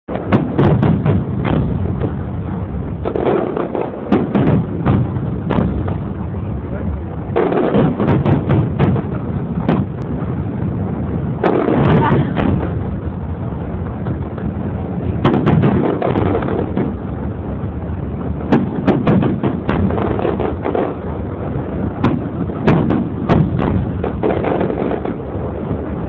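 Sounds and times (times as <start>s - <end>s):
firework shells bursting: 0.1s - 6.3s, 7.1s - 26.0s
steady low rumble: 0.1s - 26.0s.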